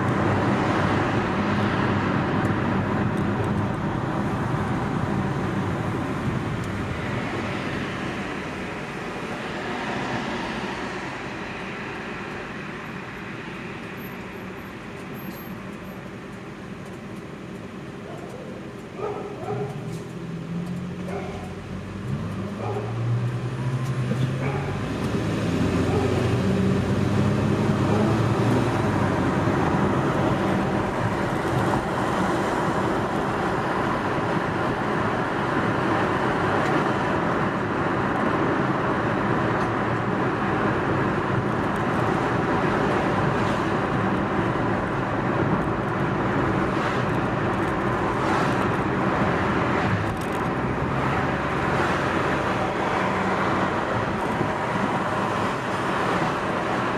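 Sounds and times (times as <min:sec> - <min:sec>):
car engine: 0:00.0 - 0:56.9
road and tyre noise: 0:00.0 - 0:56.9.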